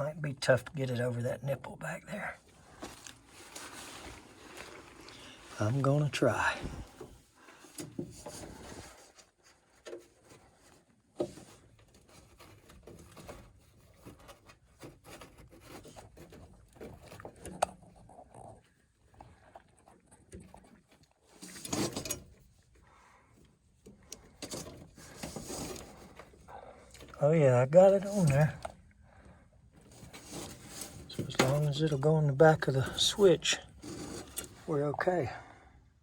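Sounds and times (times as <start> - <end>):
rubber tubing rubbing and scraping: 2.6 - 7.2, 7.8 - 23.0, 23.8 - 28.8, 29.7 - 35.1.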